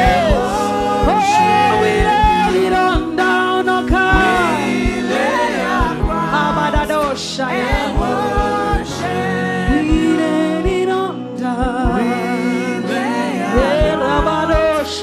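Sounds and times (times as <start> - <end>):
worship singing over chords: 0.0 - 15.0.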